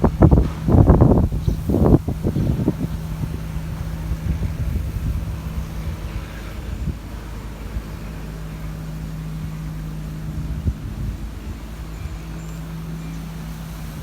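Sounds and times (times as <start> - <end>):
low engine-like hum: 0.0 - 14.0
wind buffeting microphone: 0.0 - 14.0.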